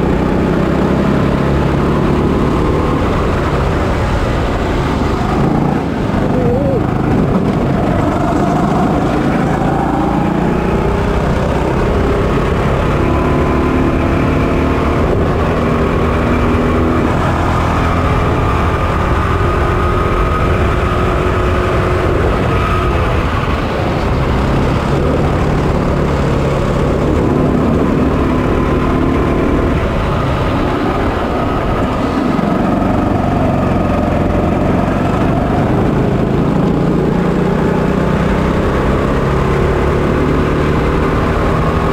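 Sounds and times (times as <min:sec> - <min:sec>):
kart engine revving: 0:00.0 - 0:41.9.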